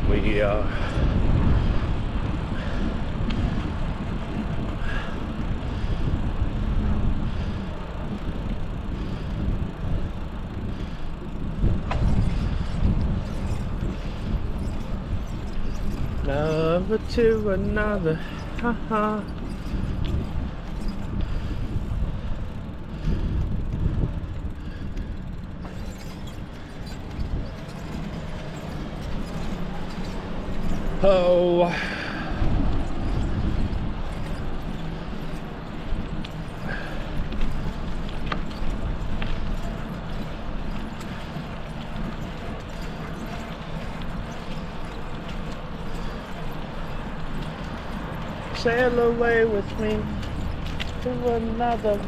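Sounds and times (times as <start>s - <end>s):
bicycle tyres on pavement: 0.0s - 52.0s
wind rush on microphone: 0.0s - 52.0s.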